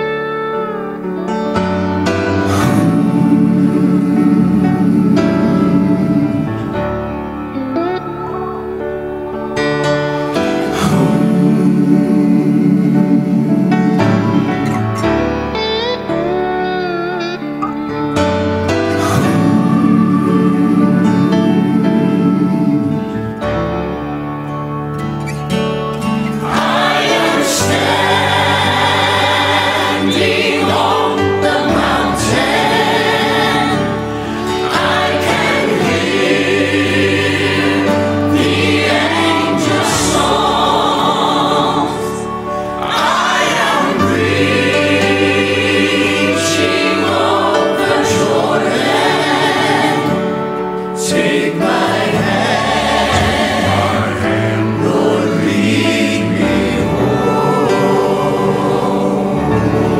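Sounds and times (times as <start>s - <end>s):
bass accompaniment: 0.0s - 59.9s
choir singing gospel: 0.0s - 59.9s.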